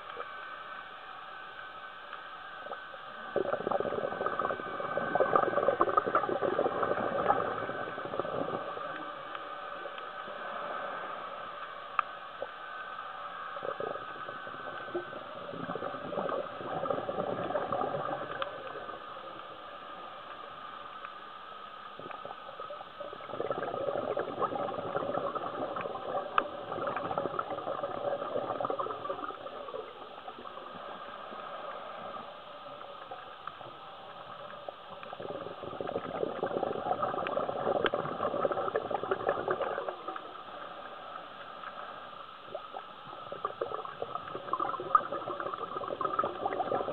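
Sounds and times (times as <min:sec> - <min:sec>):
underwater hiss and crackle: 0:00.0 - 0:46.9
underwater exhaled bubbles gurgling: 0:02.5 - 0:20.9, 0:21.8 - 0:46.9.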